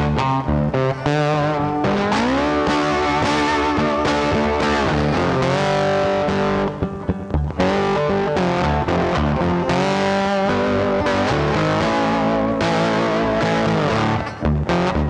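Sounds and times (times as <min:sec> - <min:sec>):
rock music with distorted guitar: 0:00.0 - 0:15.0.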